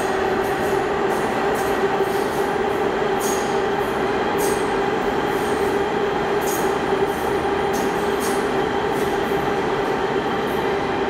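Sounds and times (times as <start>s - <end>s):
subway train rushing rumble: 0.0s - 11.0s.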